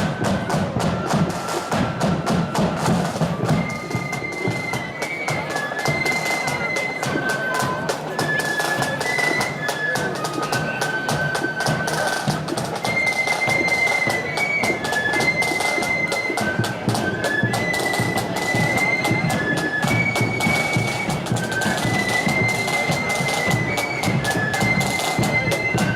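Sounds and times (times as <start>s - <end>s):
high flute melody: 0.0s - 25.9s
marching band playing: 0.0s - 25.9s
rapid snare drum beating: 0.0s - 25.9s.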